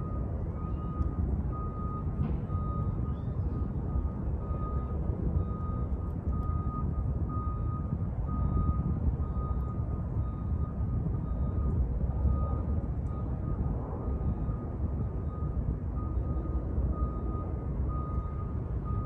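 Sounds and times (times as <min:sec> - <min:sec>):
low rumble of engines: 0:00.0 - 0:19.0
street traffic: 0:00.0 - 0:19.0
truck reversing alarm beeping: 0:00.0 - 0:19.0.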